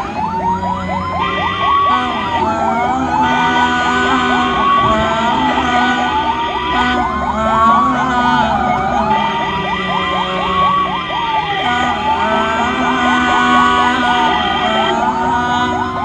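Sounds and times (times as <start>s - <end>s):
ambulance siren wailing and yelping: 0.0s - 16.0s.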